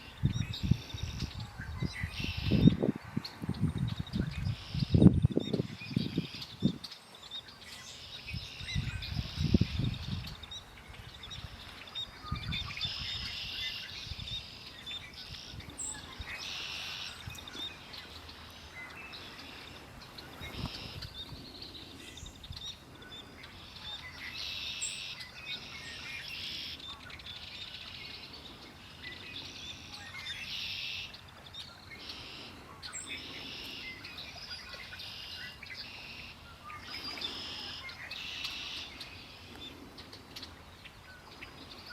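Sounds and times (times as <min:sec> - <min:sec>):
songbirds chirping and trilling: 0:00.0 - 0:41.9.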